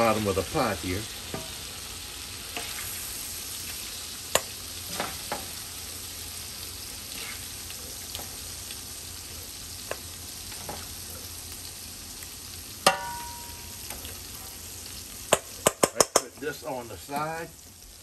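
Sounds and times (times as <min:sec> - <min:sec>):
oil sizzling in a pot: 0:00.0 - 0:18.0.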